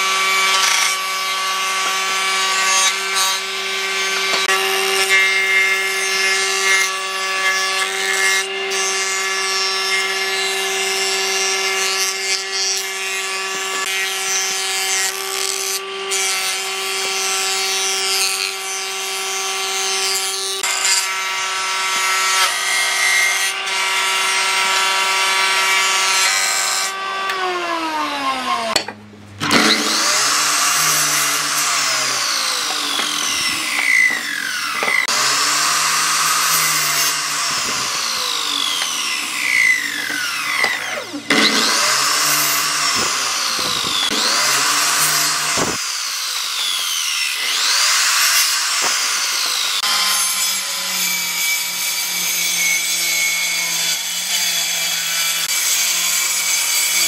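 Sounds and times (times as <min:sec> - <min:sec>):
electric power tool cutting wood: 0:00.0 - 0:57.0.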